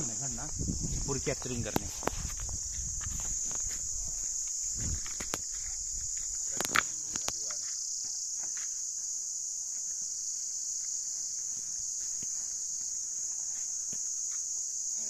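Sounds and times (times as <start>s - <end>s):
high-pitched insect chorus: 0.0s - 15.0s
footsteps on dirt track: 1.6s - 14.8s.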